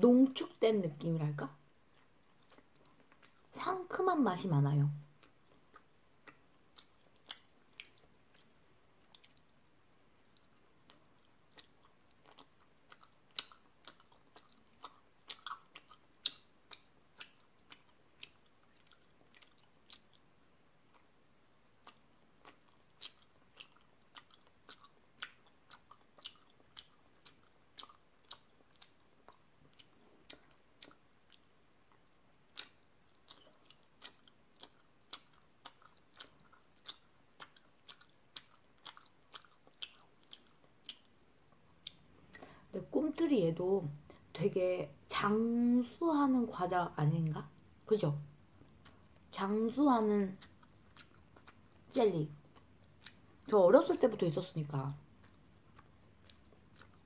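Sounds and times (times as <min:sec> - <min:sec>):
chewing mouth clicks and smacks: 0:01.8 - 0:03.5, 0:05.0 - 0:42.7, 0:48.3 - 0:49.4, 0:50.2 - 0:53.6, 0:55.0 - 0:57.0.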